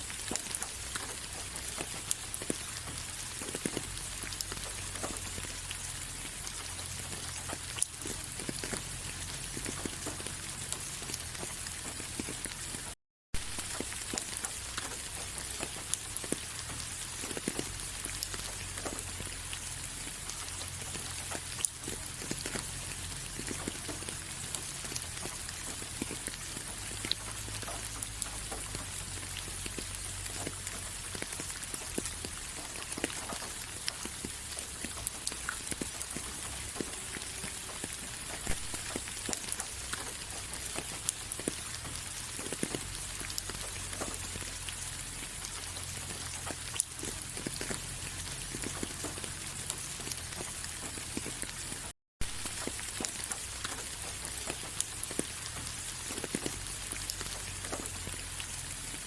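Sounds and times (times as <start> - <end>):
rain drops ticking on surface: 0.0 - 59.0
rain hiss: 0.0 - 59.0.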